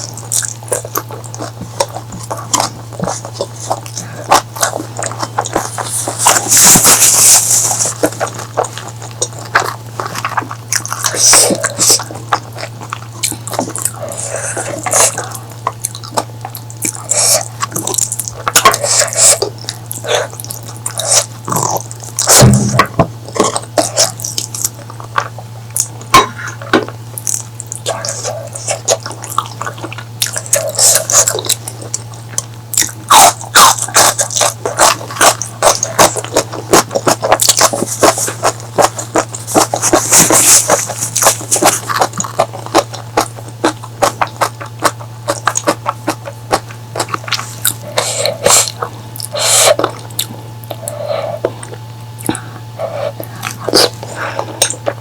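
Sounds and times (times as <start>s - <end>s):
chewing and mouth smacks: 0.0s - 55.0s
steady low hum: 0.0s - 55.0s.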